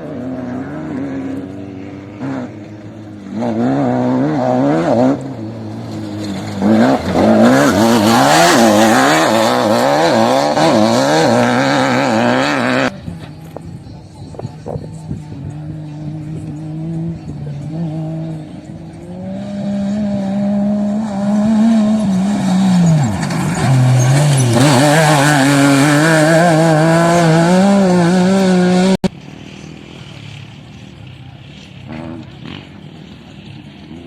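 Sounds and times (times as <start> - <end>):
vehicle engine under load: 0.0 - 34.0.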